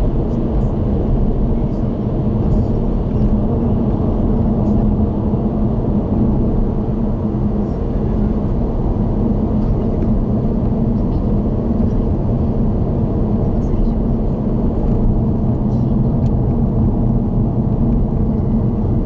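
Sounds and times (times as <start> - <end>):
car tyre and engine drone: 0.0 - 19.0
constant low hum: 0.0 - 19.0.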